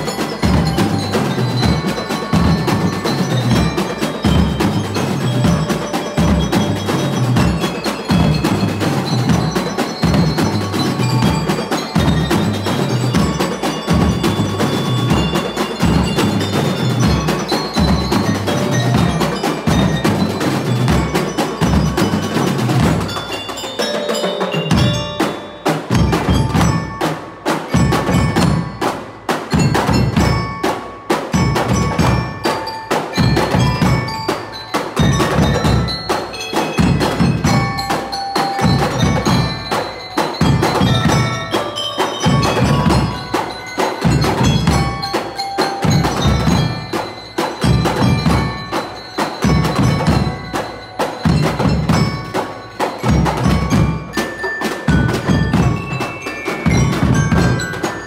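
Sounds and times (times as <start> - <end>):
bass and snare drums: 0.0 - 23.6, 24.5 - 58.0
glockenspiel melody: 0.0 - 58.0.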